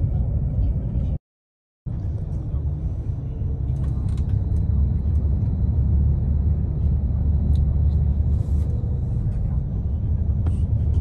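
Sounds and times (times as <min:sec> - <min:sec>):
bus engine low rumble: 0:00.0 - 0:01.2, 0:01.9 - 0:11.0.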